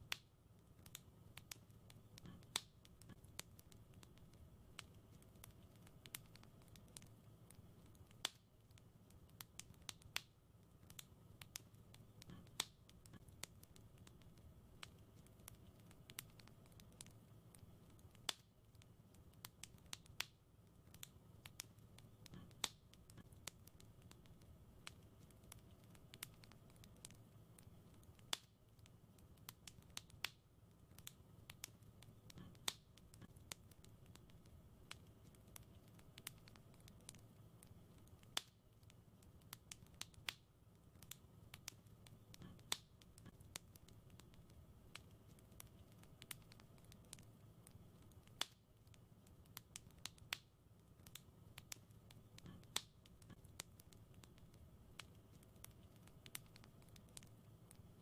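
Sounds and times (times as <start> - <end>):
faint low rumble: 0.0 - 58.0
fireplace fire crackling: 0.0 - 58.0.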